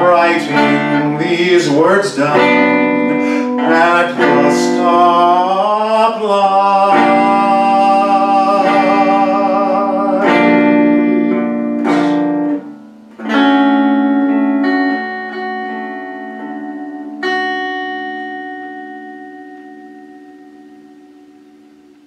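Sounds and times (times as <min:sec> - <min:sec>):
electric guitar chords: 0:00.0 - 0:22.0.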